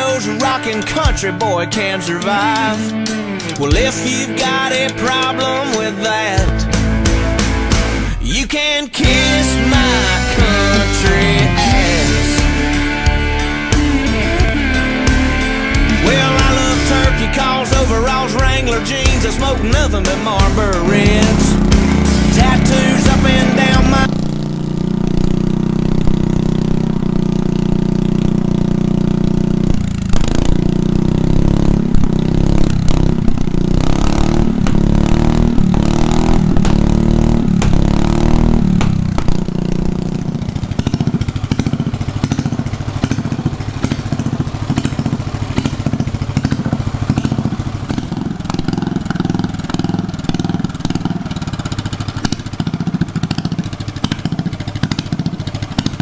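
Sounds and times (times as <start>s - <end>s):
mower engine revving: 0.0s - 56.0s.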